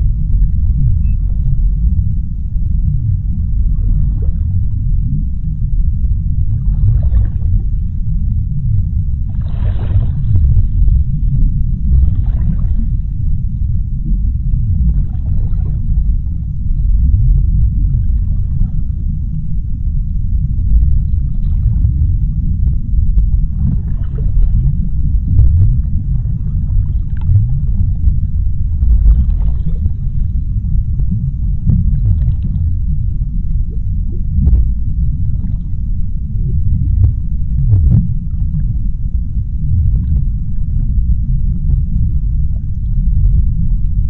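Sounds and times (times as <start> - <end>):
deep underwater rumble: 0.0 - 44.0.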